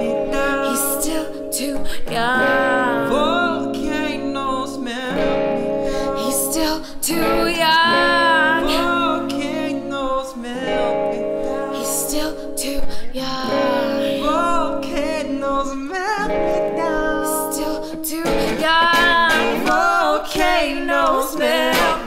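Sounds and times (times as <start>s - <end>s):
acoustic guitar: 0.0s - 22.0s
man and woman singing: 0.0s - 22.0s.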